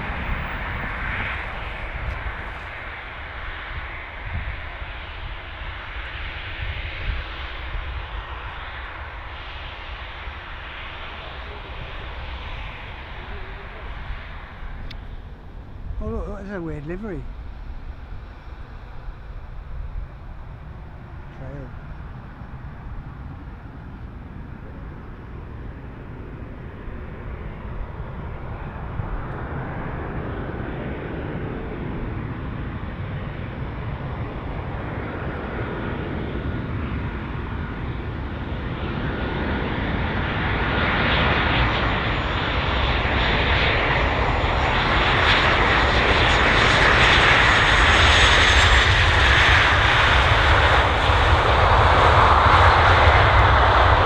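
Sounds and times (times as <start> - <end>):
airliner engines: 0.0 - 54.0.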